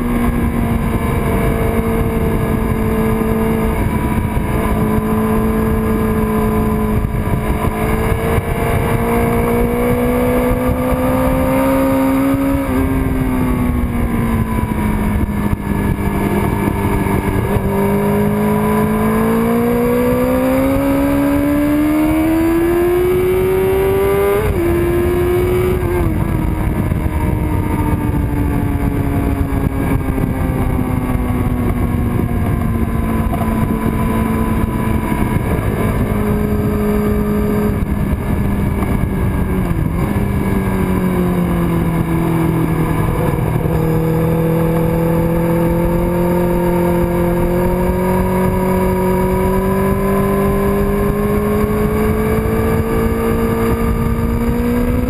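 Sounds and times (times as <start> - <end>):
motorcycle engine at speed: 0.0 - 55.0
wind rush on microphone: 0.0 - 55.0.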